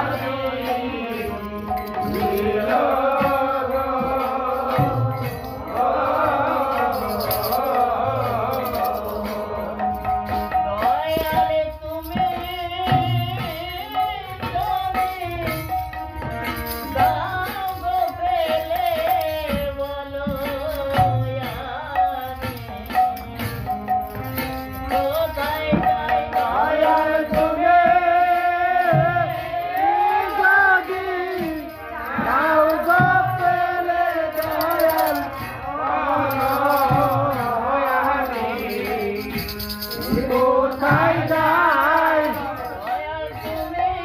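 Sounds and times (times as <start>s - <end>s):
harmonium: 0.0s - 44.0s
man singing: 0.0s - 44.0s.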